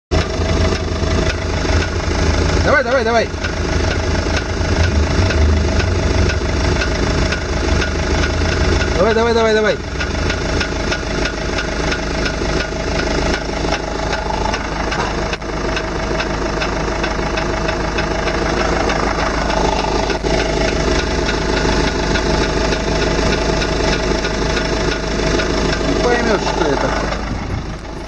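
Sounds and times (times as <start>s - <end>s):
car engine idling: 0.1s - 28.0s
suspension clicks and knocks: 0.2s - 28.0s.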